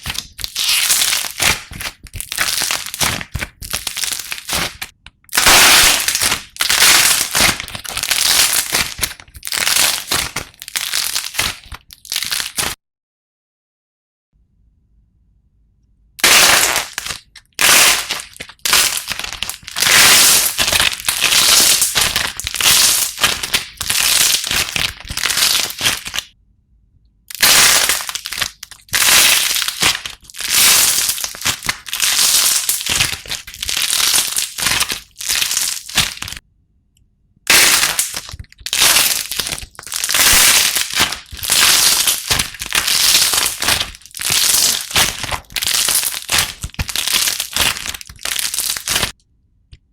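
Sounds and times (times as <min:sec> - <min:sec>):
slime crackling and crunching: 0:00.0 - 0:12.8, 0:16.2 - 0:26.3, 0:27.3 - 0:36.4, 0:37.5 - 0:49.2.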